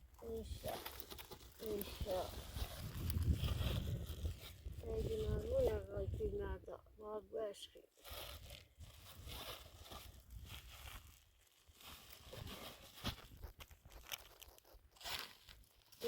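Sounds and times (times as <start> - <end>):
rustling and crunching handling noise: 0.0 - 16.0.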